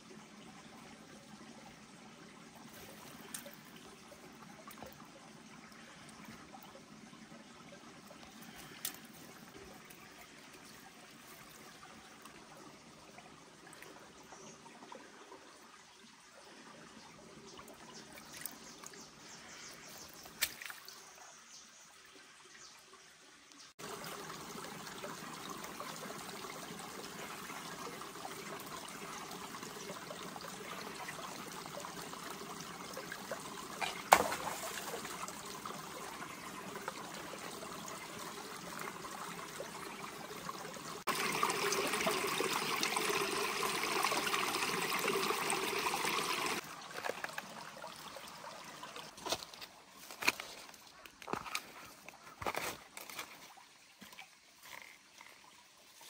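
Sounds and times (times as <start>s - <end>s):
water trickling in stream: 0.0s - 56.0s.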